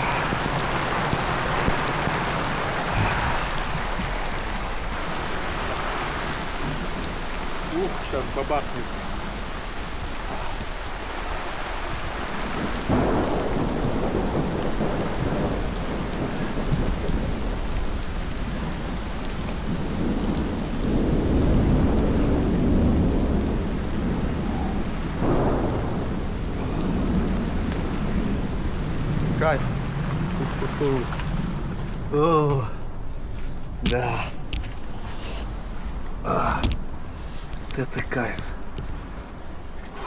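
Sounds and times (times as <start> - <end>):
thunder clap: 0.0 - 32.2
low rolling thunder rumble: 0.0 - 33.2
heavy rain falling: 0.0 - 40.0.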